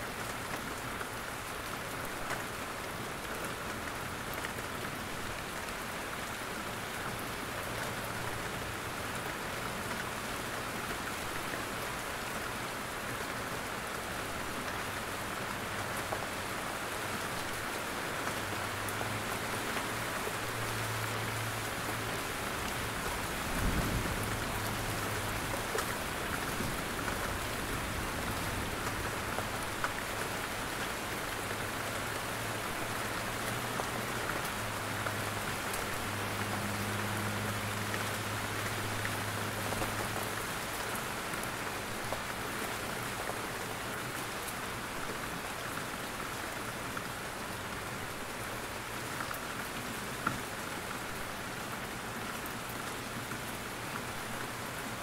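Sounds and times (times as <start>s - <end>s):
steady rain in forest: 0.0s - 55.0s.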